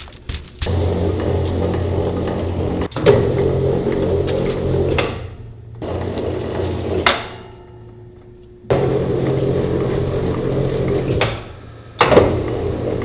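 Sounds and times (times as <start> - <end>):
dough sheeter motor humming: 0.6 - 13.0.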